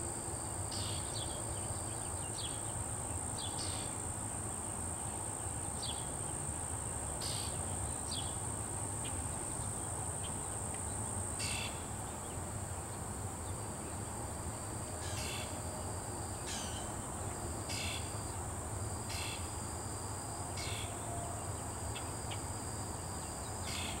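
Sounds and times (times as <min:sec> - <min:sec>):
insects trilling: 0:00.2 - 0:24.0.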